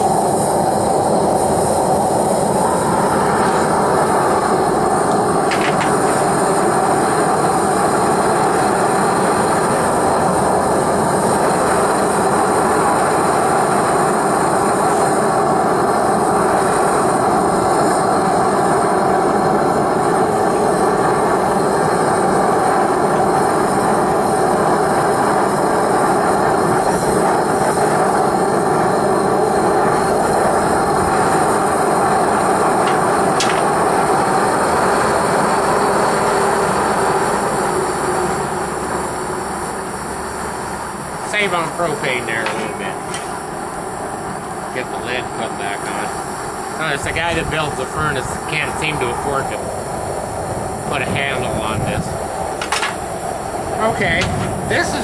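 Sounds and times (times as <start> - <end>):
propane burner rushing: 0.0 - 55.0.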